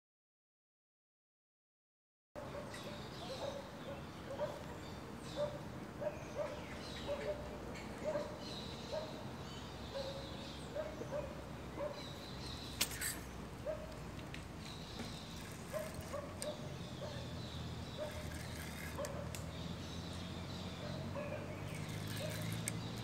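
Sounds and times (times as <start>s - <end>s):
outdoor background noise: 2.4s - 23.0s.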